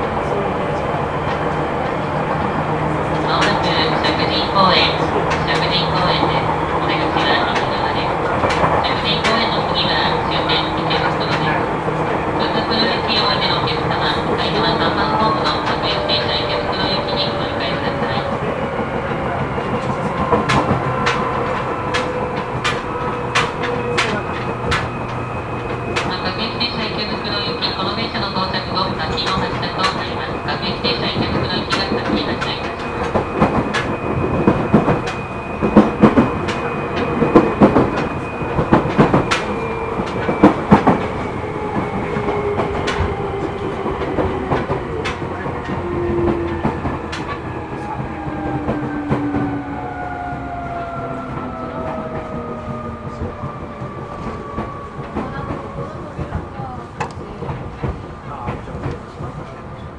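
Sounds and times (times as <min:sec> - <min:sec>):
train rolling rumble: 0:00.0 - 0:59.9
wheel clacks over rail joints: 0:00.0 - 0:59.9.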